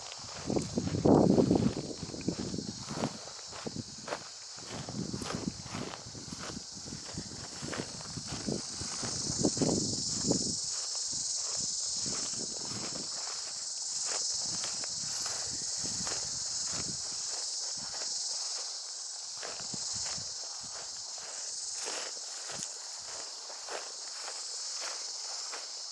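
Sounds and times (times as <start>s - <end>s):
footsteps crunching on trail: 0.0s - 25.9s
high-pitched insect drone: 0.0s - 25.9s.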